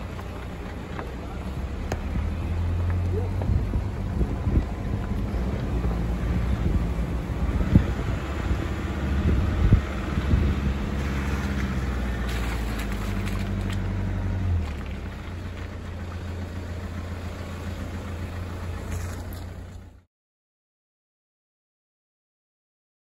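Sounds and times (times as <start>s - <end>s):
engine running at low revs: 0.0s - 20.1s.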